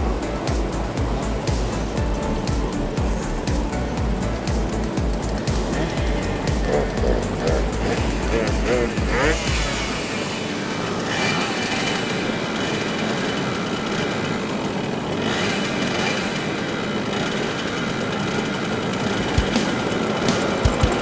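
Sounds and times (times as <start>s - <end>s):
two-stroke moped engines buzzing: 0.0s - 21.0s.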